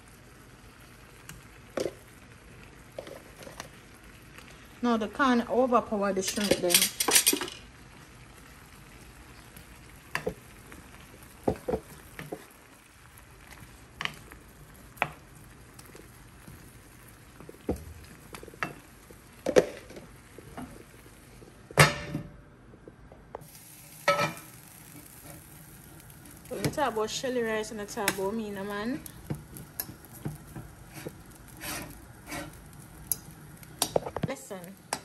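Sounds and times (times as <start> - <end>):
shrimp sizzling in a pot: 0.0 - 21.8, 23.4 - 35.0.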